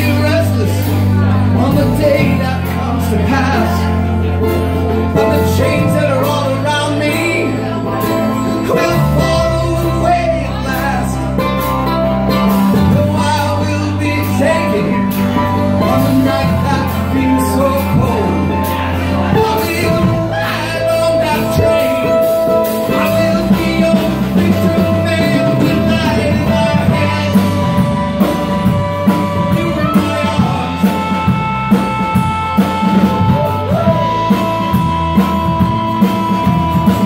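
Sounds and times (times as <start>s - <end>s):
acoustic guitar: 0.0s - 37.0s
electric bass: 0.0s - 37.0s
harmonica: 0.0s - 37.0s
keyboard: 0.0s - 37.0s.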